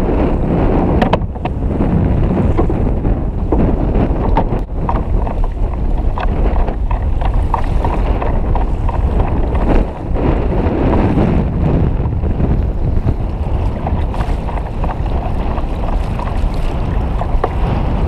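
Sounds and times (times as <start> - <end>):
water slapping against hull: 0.0 - 18.0
wind buffeting microphone: 0.0 - 18.0.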